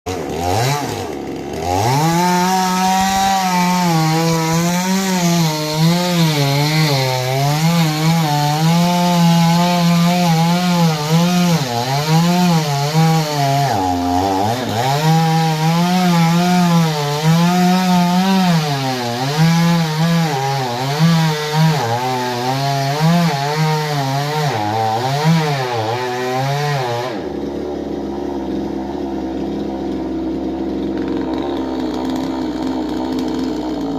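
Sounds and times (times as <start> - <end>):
chainsaw cutting tree: 0.1 - 33.9.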